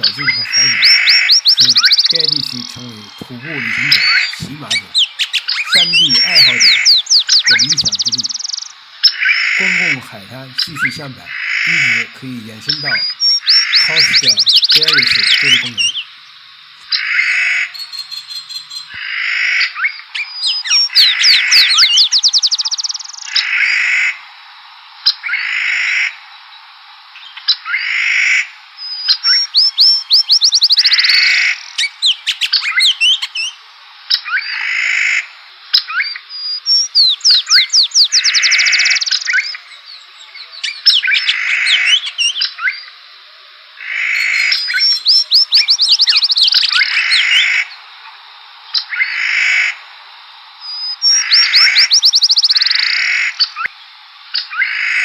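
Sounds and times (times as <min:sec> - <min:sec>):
songbird singing: 0:00.0 - 0:24.1, 0:24.8 - 0:55.0.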